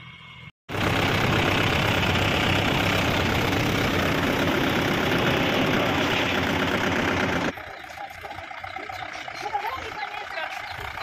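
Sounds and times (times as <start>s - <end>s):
tractor diesel engine idling: 0.7s - 11.0s.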